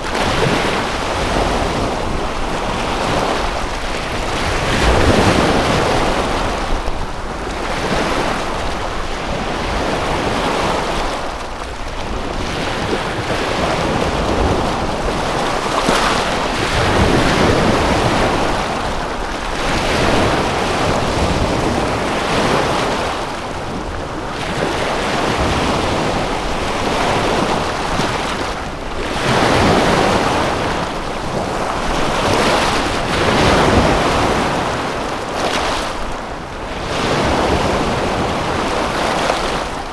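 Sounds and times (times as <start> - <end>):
waves washing in: 0.0 - 39.9
wind rumble on microphone: 0.0 - 39.9.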